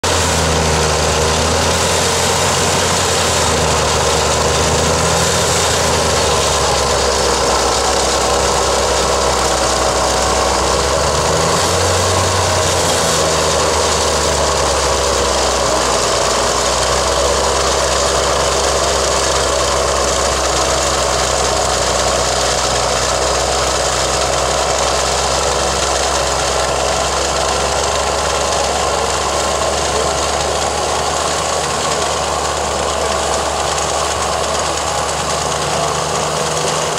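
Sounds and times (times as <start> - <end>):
snowblower throwing snow: 0.0 - 36.9
tractor engine drone: 0.0 - 36.9.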